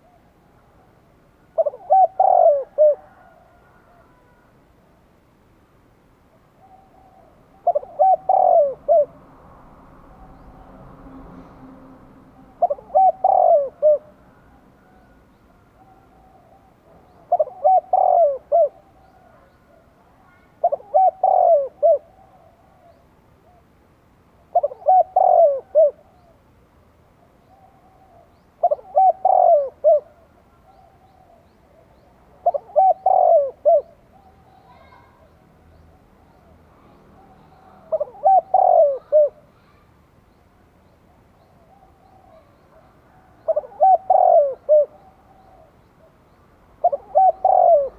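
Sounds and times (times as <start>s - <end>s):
dove cooing: 0.0s - 4.5s, 6.3s - 9.4s, 12.4s - 23.7s, 24.4s - 26.5s, 27.2s - 35.4s, 36.2s - 39.9s, 41.1s - 47.9s.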